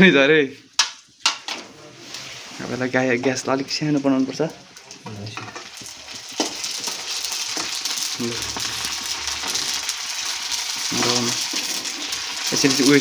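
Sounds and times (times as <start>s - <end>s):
food sizzling in hot oil: 0.2s - 13.0s.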